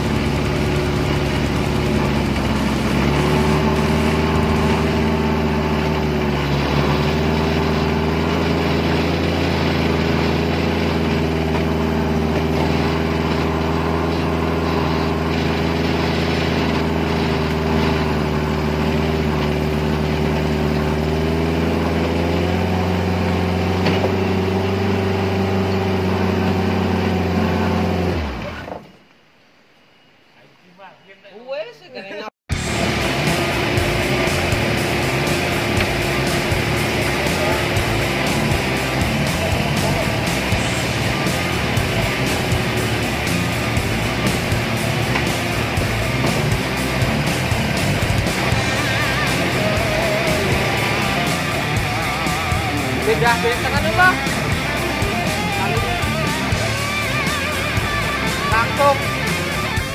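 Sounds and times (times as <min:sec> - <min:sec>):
car engine running under load: 0:00.0 - 0:29.1, 0:32.5 - 0:59.9.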